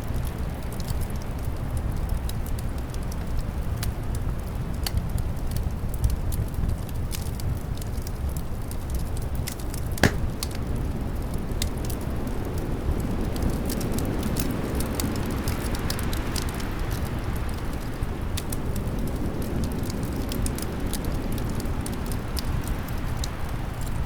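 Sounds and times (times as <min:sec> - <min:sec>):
wood fire crackling and popping: 0:00.2 - 0:24.0.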